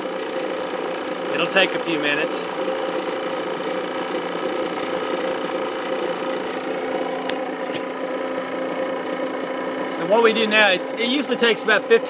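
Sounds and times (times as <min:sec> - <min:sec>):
recovery machine humming: 0:00.0 - 0:12.0.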